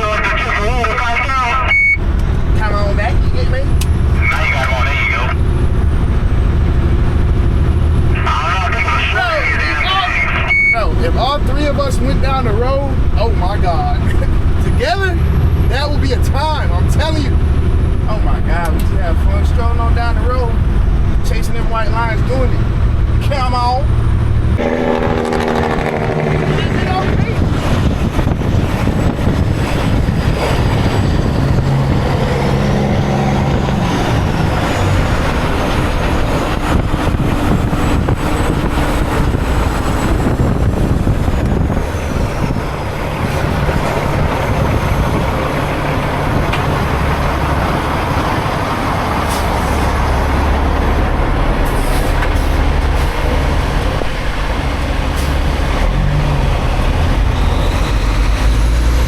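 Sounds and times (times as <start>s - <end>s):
road noise: 0.0s - 59.0s
truck diesel engine droning: 0.0s - 59.0s.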